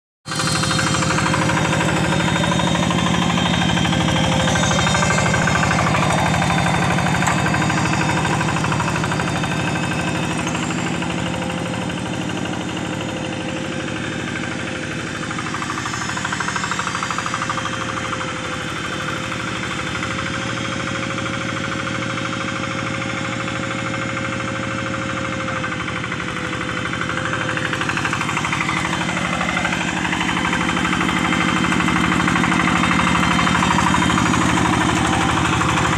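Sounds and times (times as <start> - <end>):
diesel engine chugging: 0.2 - 35.9.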